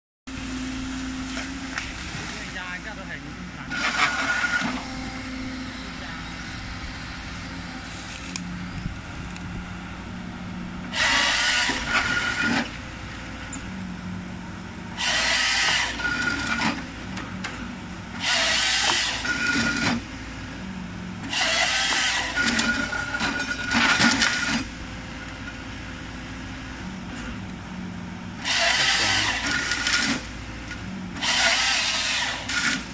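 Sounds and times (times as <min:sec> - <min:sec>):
harvester head sawing tree: 0:00.3 - 0:09.5, 0:10.8 - 0:13.7, 0:14.9 - 0:20.5, 0:21.2 - 0:25.4, 0:28.4 - 0:32.9
excavator engine and hydraulics: 0:00.3 - 0:32.9.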